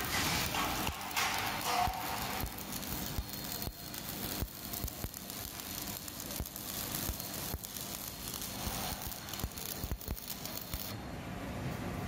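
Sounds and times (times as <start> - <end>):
welding arc crackling hiss: 0.0 - 11.0.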